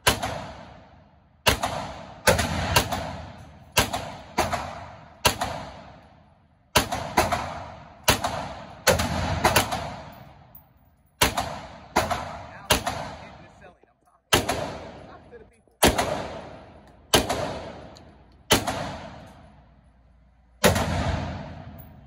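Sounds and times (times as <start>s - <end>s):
gunshots echoing indoors: 0.0s - 10.5s, 11.2s - 13.6s, 14.2s - 22.0s.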